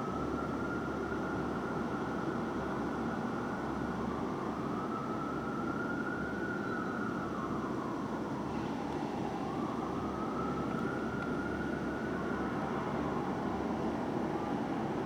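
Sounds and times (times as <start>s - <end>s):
fire engine siren wailing: 0.0s - 15.0s.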